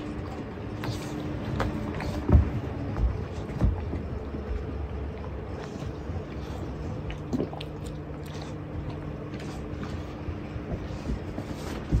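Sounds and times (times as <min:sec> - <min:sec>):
low hum: 0:00.0 - 0:12.0
puppies sniffing and licking: 0:00.0 - 0:12.0.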